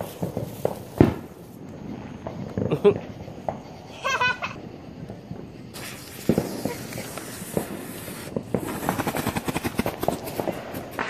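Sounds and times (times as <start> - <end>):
firework crackling: 0.0 - 11.0
firework hissing: 0.0 - 11.0.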